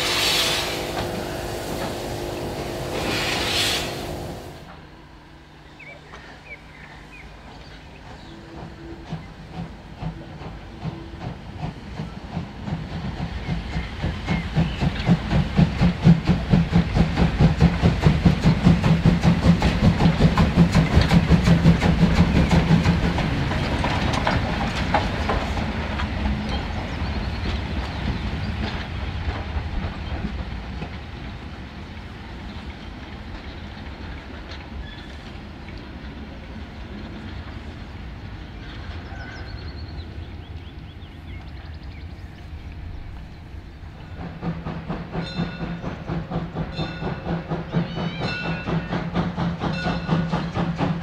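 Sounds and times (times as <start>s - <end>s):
steam locomotive exhaust beats: 0.0s - 4.9s, 6.4s - 51.0s.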